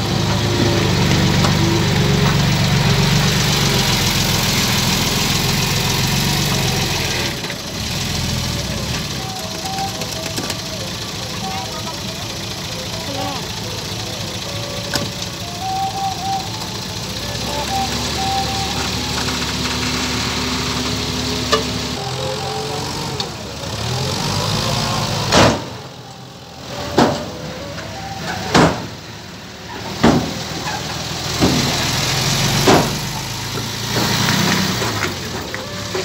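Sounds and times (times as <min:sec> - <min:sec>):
dump truck engine revving: 0:00.0 - 0:36.0.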